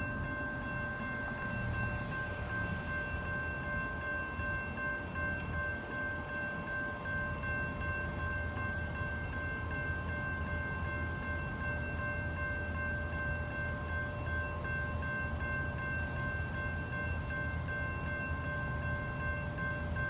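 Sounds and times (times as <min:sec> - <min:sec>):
crossing warning bell ringing: 0:00.0 - 0:20.0.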